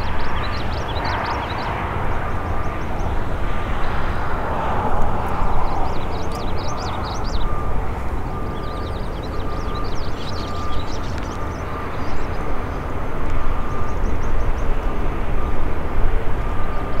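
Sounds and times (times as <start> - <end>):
turboprop engines rumbling: 0.0 - 17.0.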